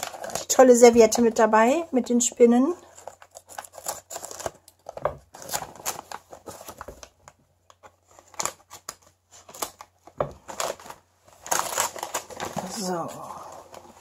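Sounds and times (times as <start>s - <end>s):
plastic wrap crinkling and tearing: 0.0s - 2.2s, 2.8s - 14.0s.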